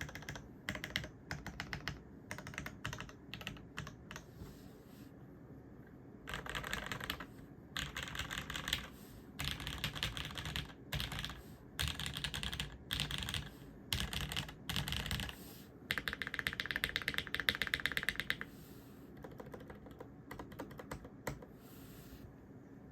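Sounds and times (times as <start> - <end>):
mechanical keyboard typing: 0.0 - 4.3, 6.3 - 18.5, 19.2 - 21.5.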